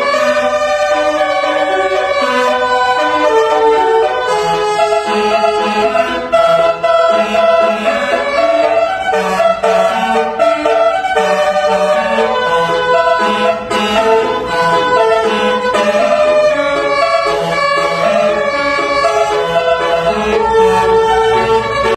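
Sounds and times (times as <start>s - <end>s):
multi-tone vehicle horn playing tune: 0.0s - 21.9s.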